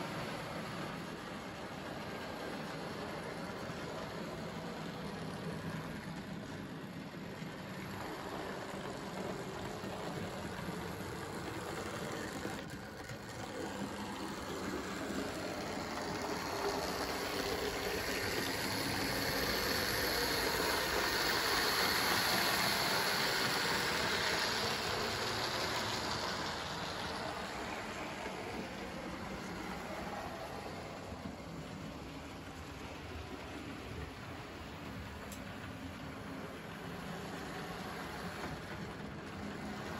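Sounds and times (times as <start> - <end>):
model train wheels rumbling: 0.0 - 39.9.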